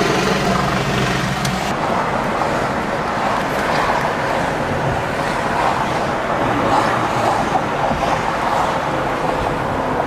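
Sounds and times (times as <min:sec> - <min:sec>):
car road noise from inside: 0:00.0 - 0:10.0.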